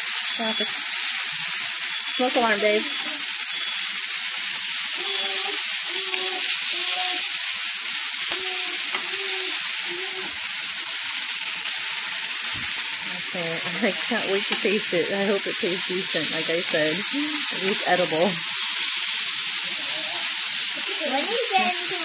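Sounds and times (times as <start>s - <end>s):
meat sizzling on grill pan: 0.0s - 22.0s
tongs turning meat: 2.2s - 22.0s.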